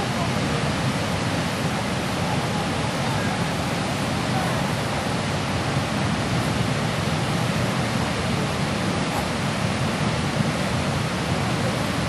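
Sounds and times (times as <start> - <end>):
fast river rushing with ice: 0.0 - 12.0.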